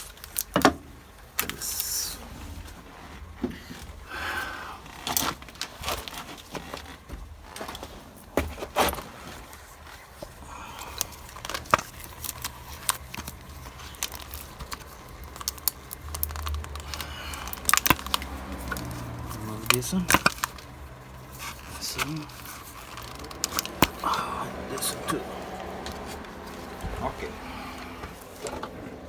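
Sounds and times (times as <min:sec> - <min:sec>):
engine parts clicking and rattling: 0:00.0 - 0:29.0.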